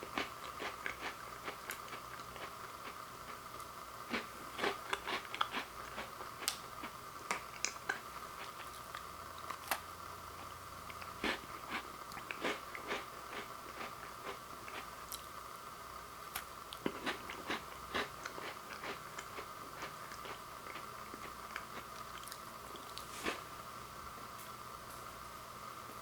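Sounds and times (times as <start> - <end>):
crunchy cookie chewing: 0.0 - 15.4, 16.3 - 23.5
faint hum: 0.0 - 26.0.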